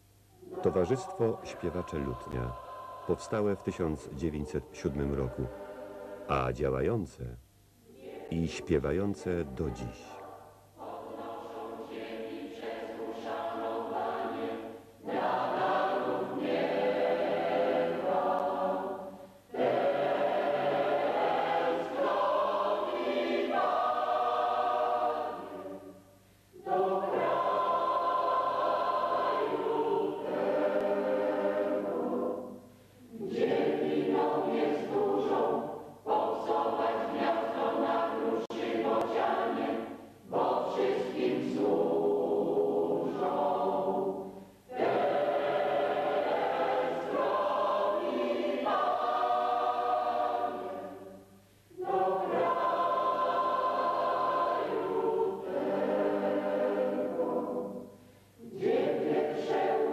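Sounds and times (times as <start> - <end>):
mixed choir singing: 0.4 - 7.0, 7.8 - 59.9.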